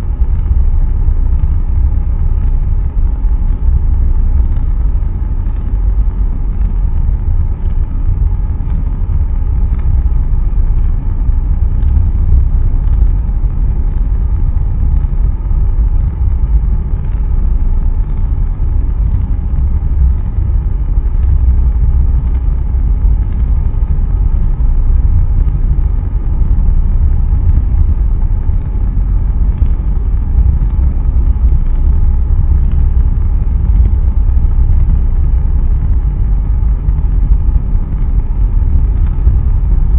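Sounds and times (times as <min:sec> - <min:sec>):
rocket engine rumble: 0:00.0 - 0:39.9.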